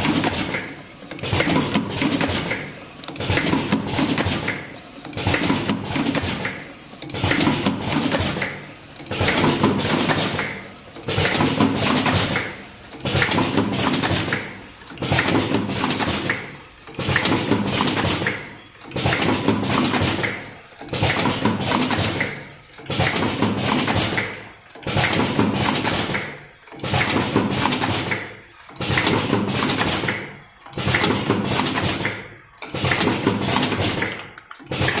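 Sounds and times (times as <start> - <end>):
cartoning machine clattering: 0.0 - 35.0.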